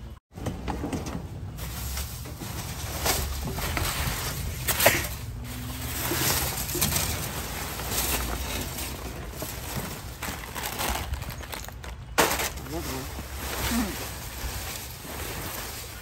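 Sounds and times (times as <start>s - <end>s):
plastic bags rustling and crinkling: 1.6s - 16.0s.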